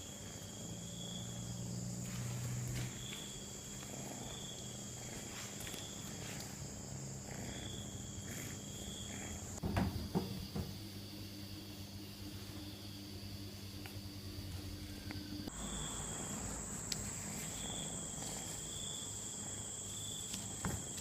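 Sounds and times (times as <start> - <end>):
low steady hum: 0.0 - 20.1.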